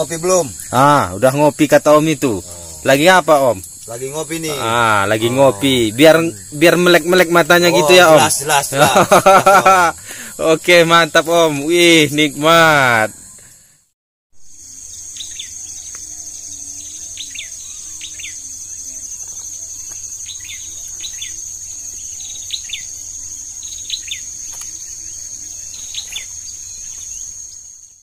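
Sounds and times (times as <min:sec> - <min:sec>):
bird chirps: 0:00.0 - 0:10.4, 0:14.4 - 0:28.0
high insect drone: 0:00.0 - 0:28.0.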